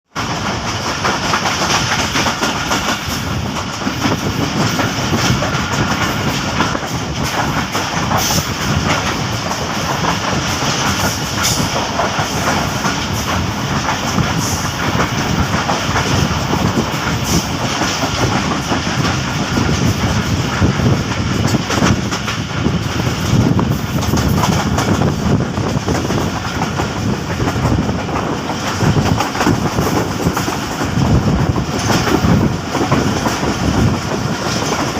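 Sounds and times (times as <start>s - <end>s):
passenger train passing: 0.1s - 34.9s.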